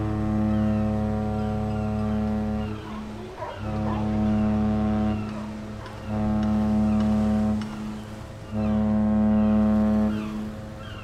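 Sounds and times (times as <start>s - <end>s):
deep horn blasts: 0.0s - 3.0s, 3.6s - 10.8s.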